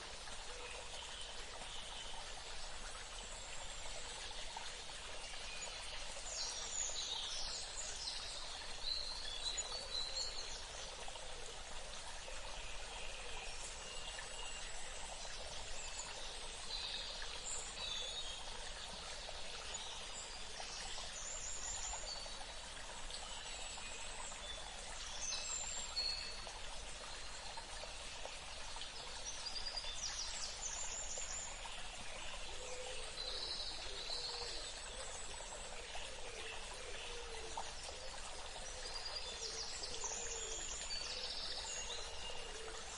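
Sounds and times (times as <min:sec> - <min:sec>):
running water: 0:00.0 - 0:42.9.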